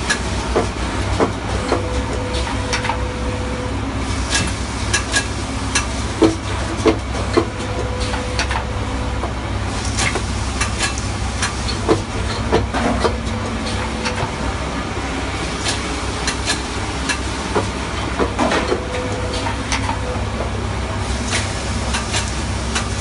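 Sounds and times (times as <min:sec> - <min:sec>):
mechanical clicks and clacks: 0:00.0 - 0:03.0, 0:04.3 - 0:08.7, 0:09.9 - 0:14.4, 0:15.6 - 0:20.5, 0:21.3 - 0:23.0
low machine hum: 0:00.0 - 0:23.0.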